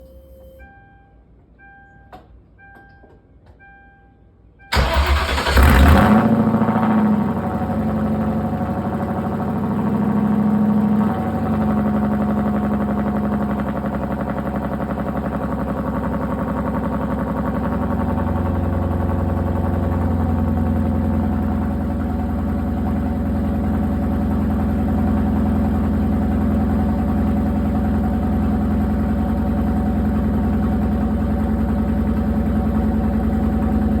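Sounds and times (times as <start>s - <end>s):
car engine idling: 4.7s - 34.0s.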